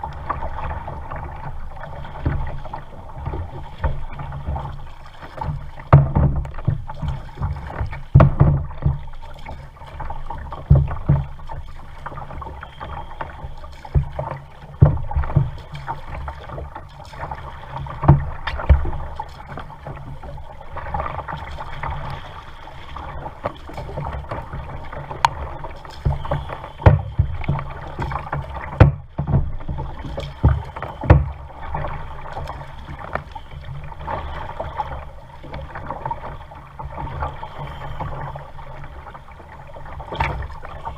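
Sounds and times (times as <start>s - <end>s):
paddle knocking on kayak hull: 0.0s - 37.5s
water splashing and lapping: 0.0s - 40.9s.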